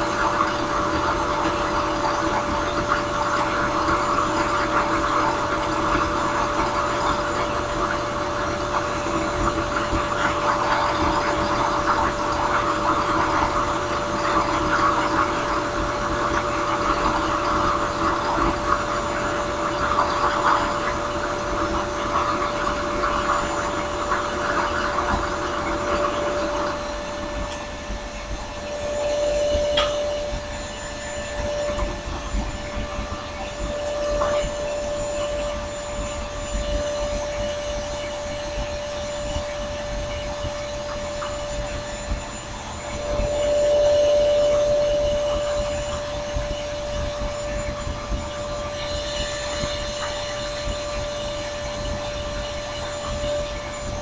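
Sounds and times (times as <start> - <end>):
drill press motor running: 0.0 - 54.0.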